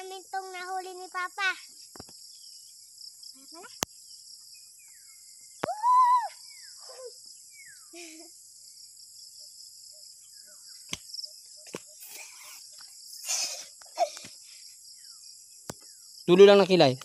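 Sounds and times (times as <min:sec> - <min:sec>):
crickets and insects chorus: 0:00.0 - 0:17.0.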